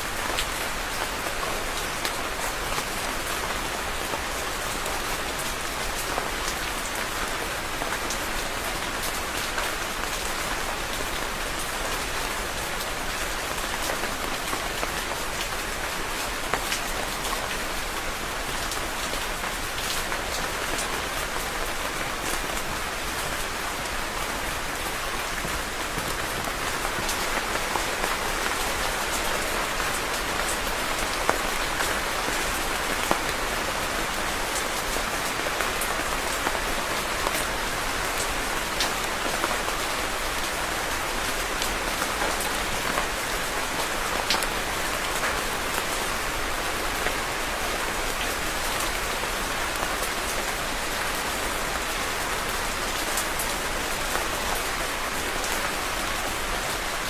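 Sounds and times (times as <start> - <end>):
heavy rain on a surface: 0.0 - 57.0.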